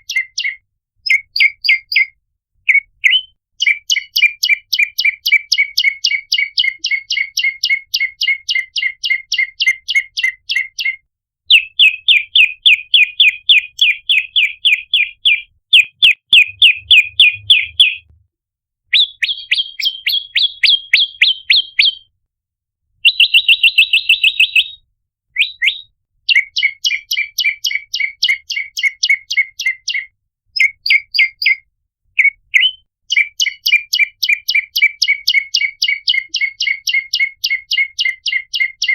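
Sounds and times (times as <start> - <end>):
bird high chirps: 0.0 - 18.2, 18.9 - 22.1, 23.0 - 38.9.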